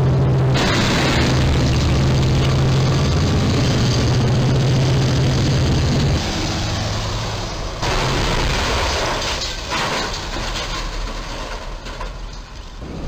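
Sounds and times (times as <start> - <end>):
truck and traffic noise: 0.0 - 13.0
truck crashing into steel beam: 0.5 - 4.4, 5.5 - 13.0
crunching and clatter: 0.5 - 6.4, 7.0 - 13.0.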